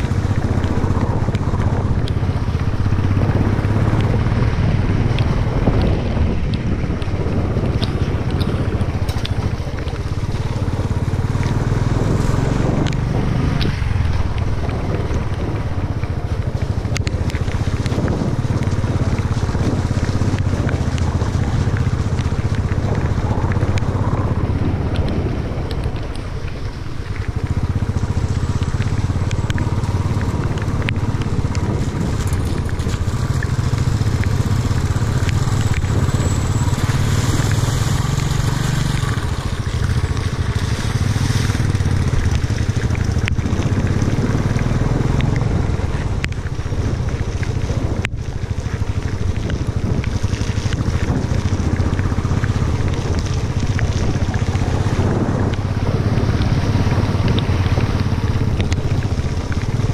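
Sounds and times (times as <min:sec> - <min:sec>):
motorcycle engine running: 0:00.0 - 0:59.9
wind buffeting microphone: 0:00.0 - 0:59.9
tyres crunching on gravel: 0:05.2 - 0:59.9.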